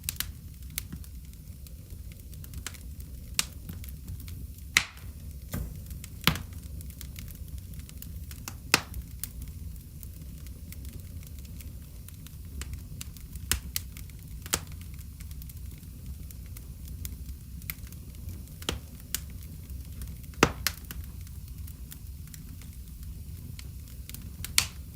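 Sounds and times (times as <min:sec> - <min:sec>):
low rumble of burning: 0:00.0 - 0:24.9
wood fire crackling and popping: 0:00.0 - 0:24.9.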